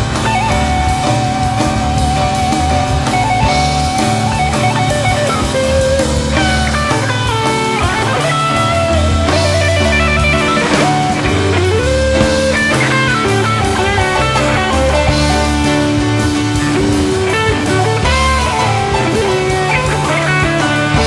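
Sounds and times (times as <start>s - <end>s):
bass guitar: 0.0s - 21.0s
drum kit: 0.0s - 21.0s
electric guitar lead: 0.0s - 21.0s.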